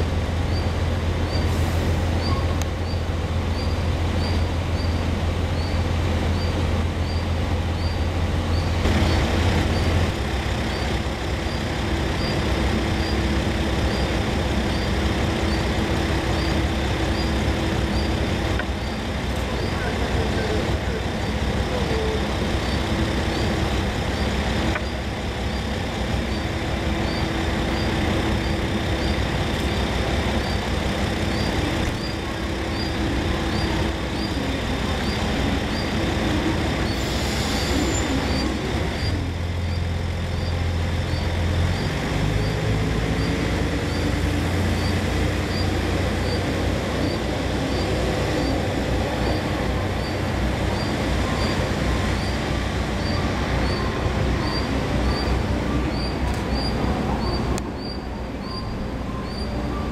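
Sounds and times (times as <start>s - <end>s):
diesel railcar engine: 0.0s - 59.9s.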